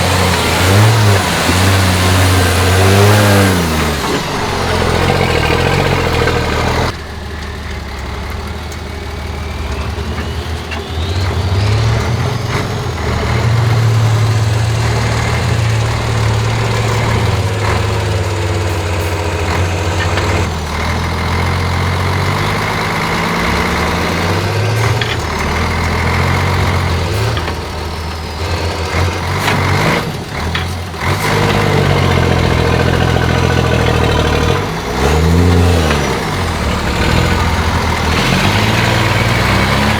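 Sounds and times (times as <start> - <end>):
truck diesel engine revving: 0.0 - 39.9.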